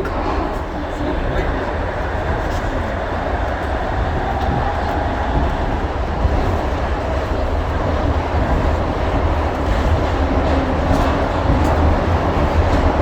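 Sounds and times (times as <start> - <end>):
monorail train running: 0.0 - 13.0.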